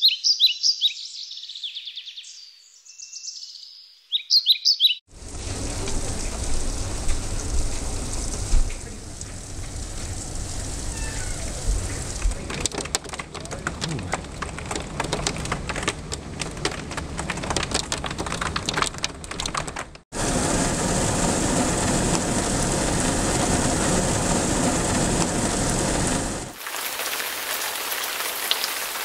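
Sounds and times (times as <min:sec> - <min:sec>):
hailstones pelting down: 0:05.1 - 0:29.0
heavy rain and hail downpour: 0:05.1 - 0:29.0.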